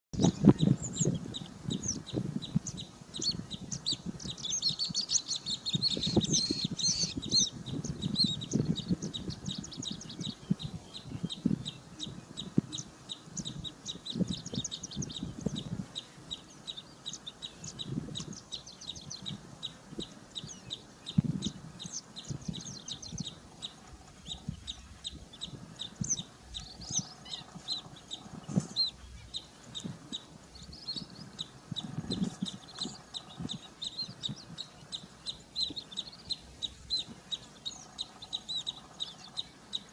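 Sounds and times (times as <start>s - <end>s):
rapid high-pitched bird chirping: 0.1s - 39.9s.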